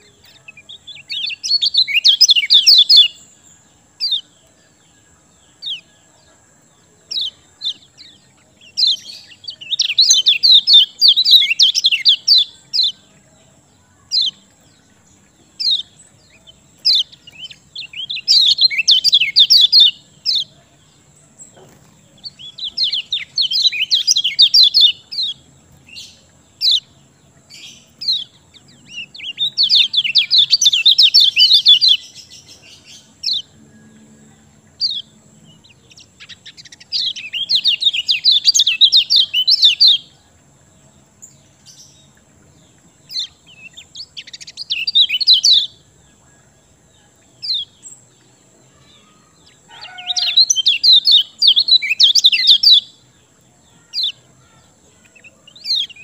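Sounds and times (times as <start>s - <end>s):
bird singing chattering phrases: 0.0s - 56.0s.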